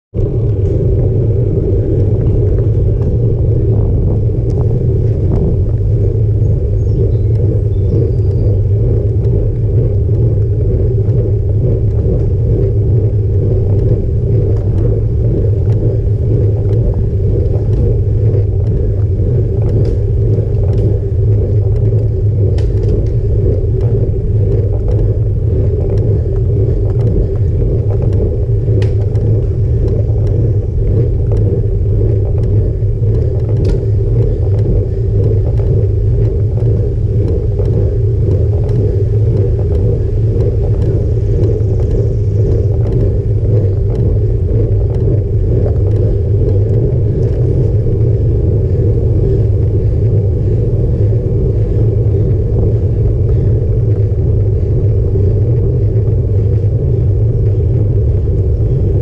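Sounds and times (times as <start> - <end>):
bike tyres rumbling on road: 0.0 - 59.0
wind on microphone: 0.1 - 59.0
faint ticks: 2.2 - 58.7.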